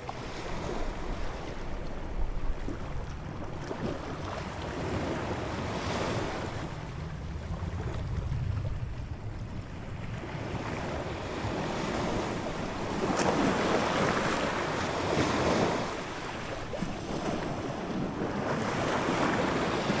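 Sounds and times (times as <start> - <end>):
low rumble of surf: 0.0 - 20.0
ocean waves breaking on shore: 0.0 - 20.0.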